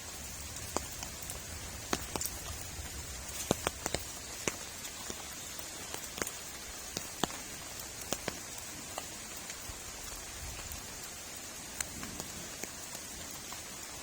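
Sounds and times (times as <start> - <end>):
heavy rain falling: 0.0 - 14.0
large raindrops ticking: 0.0 - 14.0.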